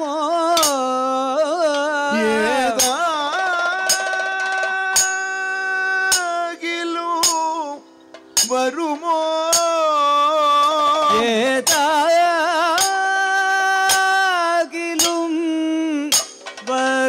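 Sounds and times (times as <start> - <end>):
man singing long ornamented notes: 0.0 - 17.0
sharp metal percussion strikes: 0.0 - 17.0.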